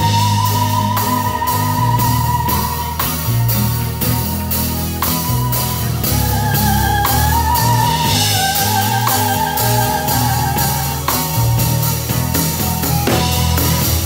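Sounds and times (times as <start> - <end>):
deep bass line: 0.0 - 14.0
drum kit with cymbals: 0.0 - 14.0
wavering lead melody: 0.0 - 14.0.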